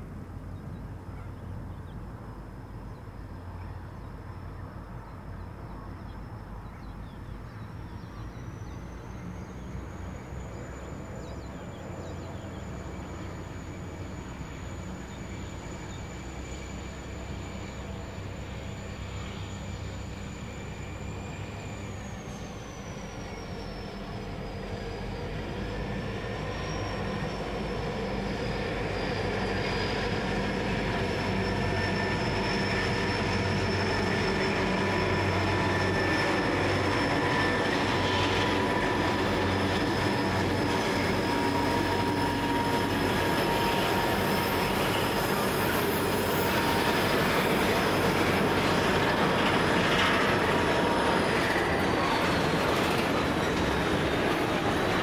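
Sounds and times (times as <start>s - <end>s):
locomotive engine drone: 0.0s - 55.0s
train wheels squealing: 3.0s - 55.0s.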